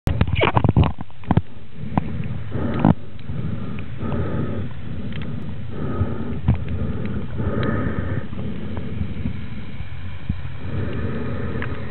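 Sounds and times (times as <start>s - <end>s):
steady low rumble: 0.1s - 11.9s
rasping snorkel breaths: 1.4s - 11.9s.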